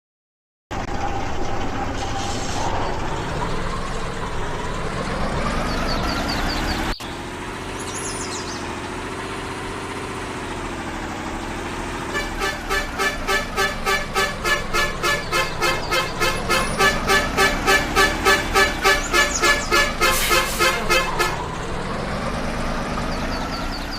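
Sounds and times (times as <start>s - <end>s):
vehicle engine running: 0.7s - 23.9s.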